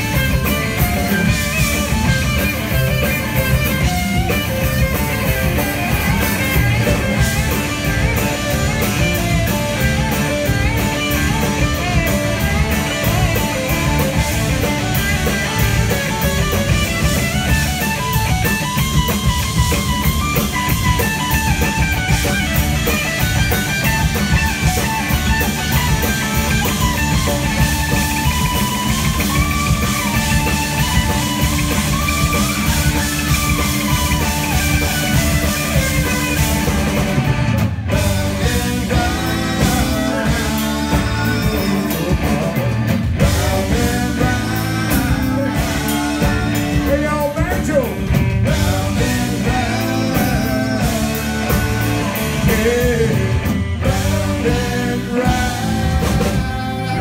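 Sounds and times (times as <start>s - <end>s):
drum beat: 0.0s - 57.0s
live rock band playing: 0.0s - 57.0s.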